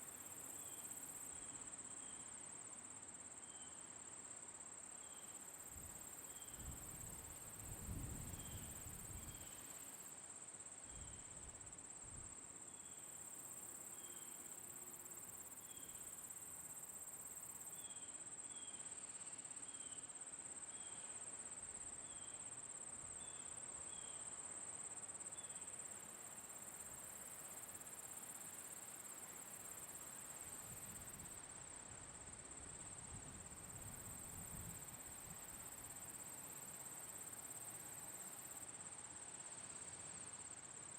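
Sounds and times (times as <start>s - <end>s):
crickets trilling: 3.0s - 20.0s, 20.6s - 40.9s.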